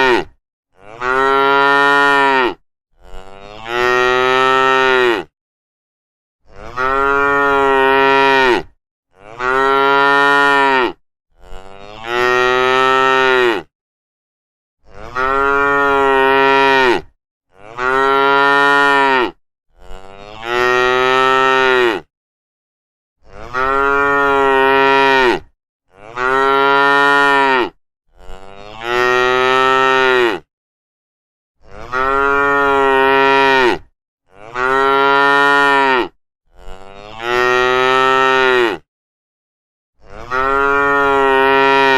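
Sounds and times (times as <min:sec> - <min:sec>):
cow mooing: 0:00.0 - 0:05.3, 0:06.5 - 0:13.7, 0:14.8 - 0:22.1, 0:23.2 - 0:30.5, 0:31.6 - 0:38.9, 0:40.0 - 0:41.9.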